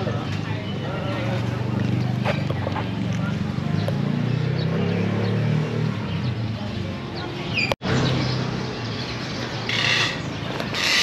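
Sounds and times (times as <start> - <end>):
distant voices: 0.0 - 11.0
traffic: 0.0 - 11.0.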